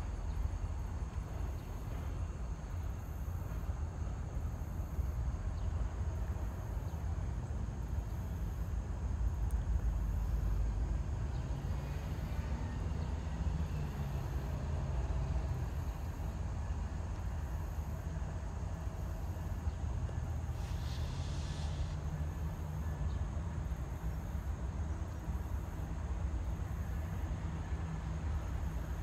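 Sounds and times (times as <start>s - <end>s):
diesel locomotives rumbling: 0.0s - 29.0s.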